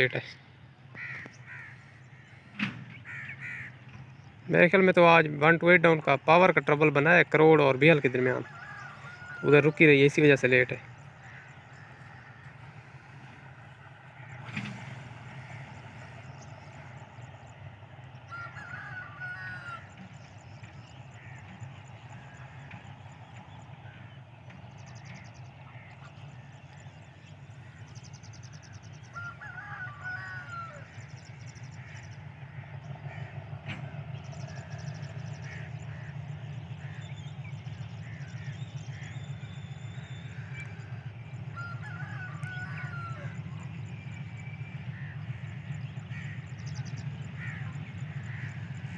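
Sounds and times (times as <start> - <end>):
bird calling: 0.0 - 5.0, 5.9 - 48.9
diesel locomotive rumble: 0.0 - 48.9.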